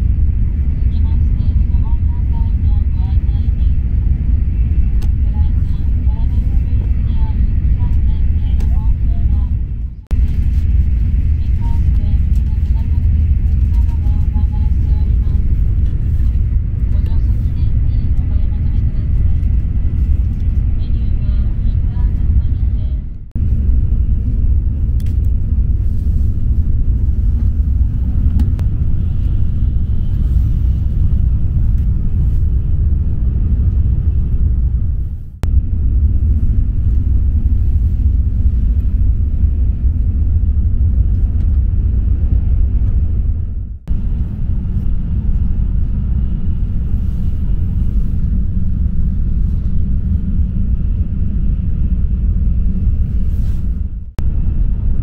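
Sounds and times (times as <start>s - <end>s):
train rumbling inside cabin: 0.0s - 55.0s.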